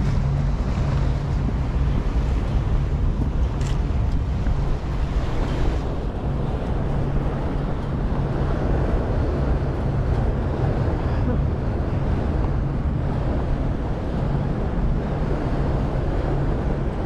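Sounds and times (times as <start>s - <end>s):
ferry engine drone: 0.0s - 17.0s
water washing past: 0.0s - 17.0s
wind buffeting microphone: 0.0s - 17.0s.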